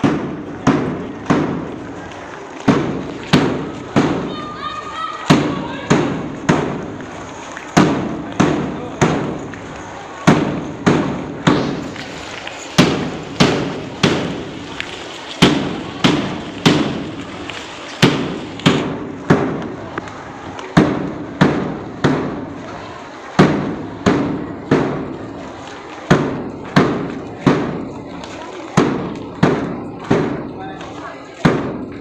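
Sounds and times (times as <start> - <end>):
drum beating marching rhythm: 0.0 - 30.8, 31.4 - 32.0.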